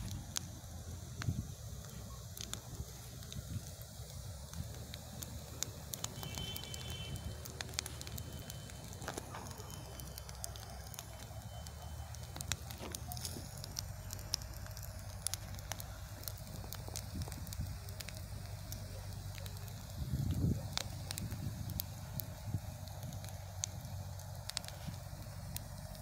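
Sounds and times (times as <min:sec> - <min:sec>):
bonfire crackling and popping: 0:00.0 - 0:26.0
fire low rumble: 0:00.0 - 0:26.0.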